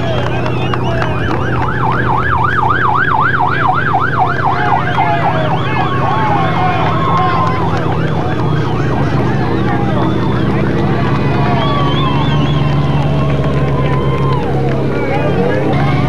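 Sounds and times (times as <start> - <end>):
electronic siren yelping: 0.0 - 14.7.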